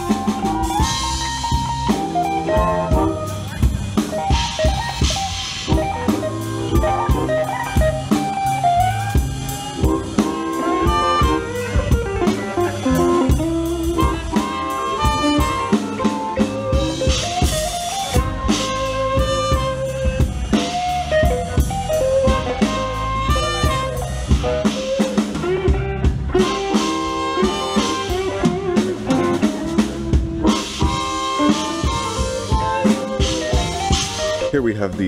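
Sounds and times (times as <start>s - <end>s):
electric guitar: 0.0s - 34.6s
saxophone melody: 0.0s - 34.6s
drum kit: 0.0s - 35.0s.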